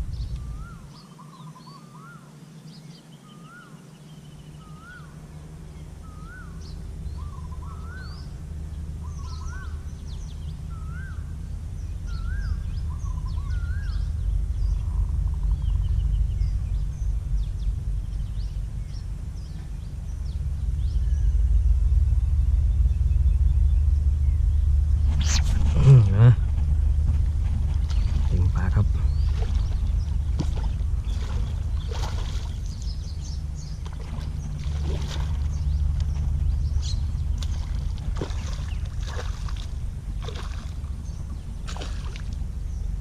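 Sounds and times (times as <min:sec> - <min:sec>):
low rumble: 0:00.0 - 0:01.0, 0:04.3 - 0:43.0
birds chirping: 0:00.0 - 0:43.0.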